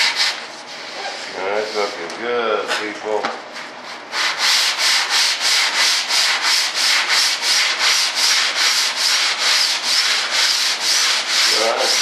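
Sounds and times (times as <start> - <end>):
sandpaper scraping back and forth: 0.0 - 2.0, 4.1 - 12.0.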